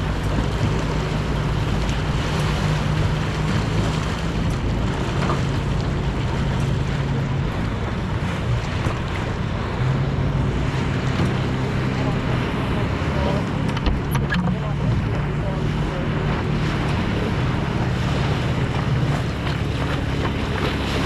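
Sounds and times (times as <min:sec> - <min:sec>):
powerboat engine running: 0:00.0 - 0:21.0
rush of wind and water: 0:00.0 - 0:21.0.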